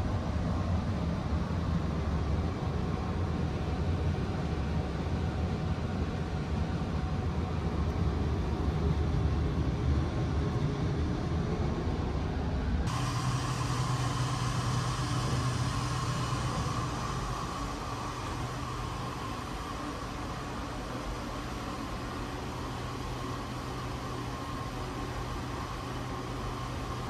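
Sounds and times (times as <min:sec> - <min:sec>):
ventilation hum with whine: 0:00.0 - 0:27.0.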